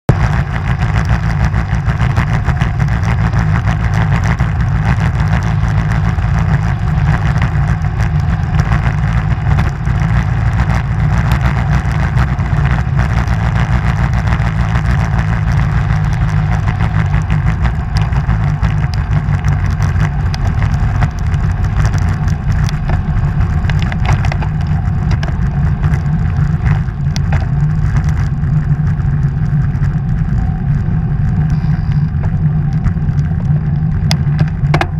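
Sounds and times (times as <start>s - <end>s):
small knocks from road: 0.1s - 30.5s, 32.2s - 34.9s
tyre noise on asphalt: 0.1s - 34.9s
wind buffeting microphone: 0.1s - 34.9s.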